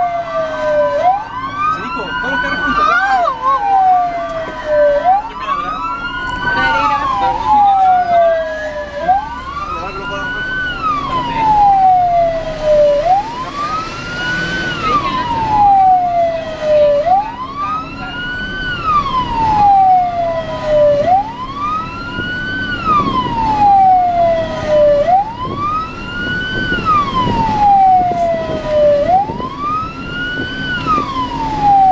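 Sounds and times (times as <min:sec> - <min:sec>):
engine hum: 0:00.0 - 0:31.9
fire engine siren wailing: 0:00.0 - 0:31.9.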